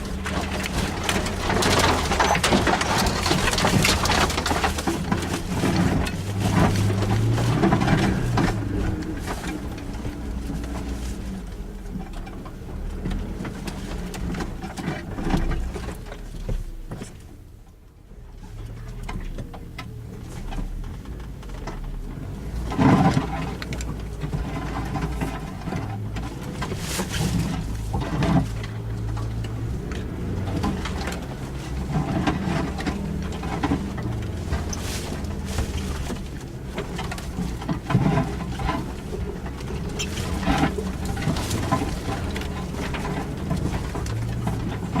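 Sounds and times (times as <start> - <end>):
car engine running at low revs: 0.0 - 45.0
knocks and clunks: 0.0 - 45.0.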